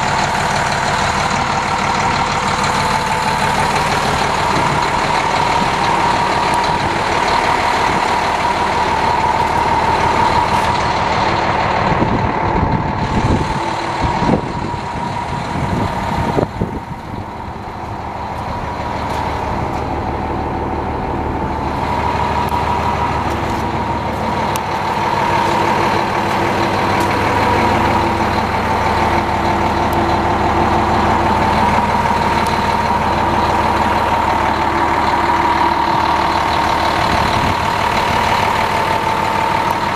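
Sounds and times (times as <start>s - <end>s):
diesel truck engine idling: 0.0s - 39.9s
engine knocks: 0.0s - 39.9s.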